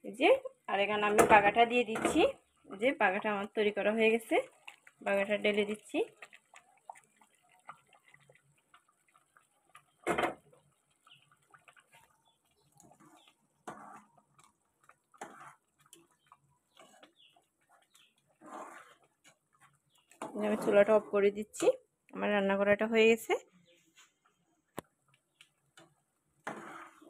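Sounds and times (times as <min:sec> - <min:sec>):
ticking and popping from simmering pot: 0:00.4 - 0:18.4, 0:19.0 - 0:22.2, 0:24.3 - 0:26.5.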